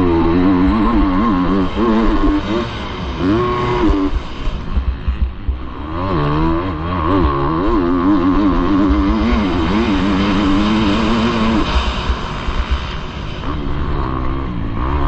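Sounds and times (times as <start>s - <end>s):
motocross bike engine revving: 0.0s - 15.0s
rough low rumble: 0.0s - 15.0s.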